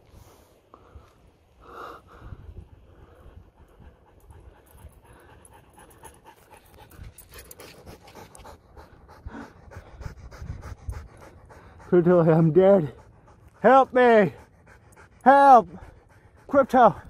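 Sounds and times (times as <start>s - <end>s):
dog panting: 1.6s - 17.0s.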